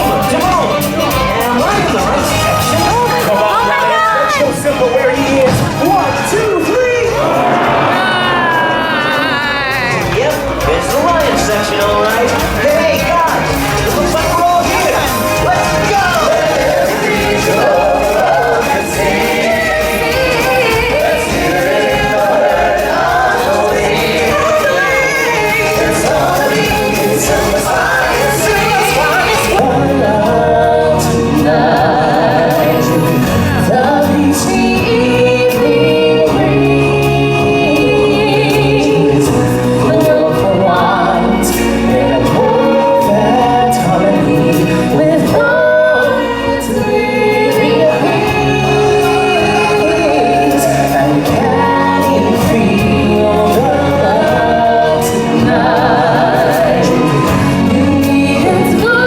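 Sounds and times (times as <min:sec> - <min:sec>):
band with steady bass: 0:00.0 - 0:59.0
choir singing: 0:00.0 - 0:59.0
solo voices singing: 0:00.0 - 0:59.0.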